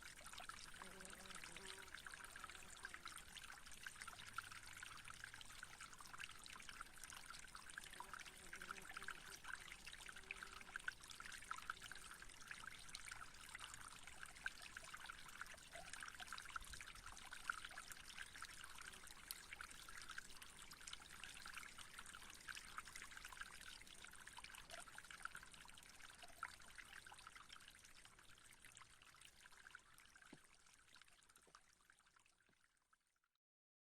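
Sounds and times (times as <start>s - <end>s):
faint trickling water: 0.0s - 33.4s.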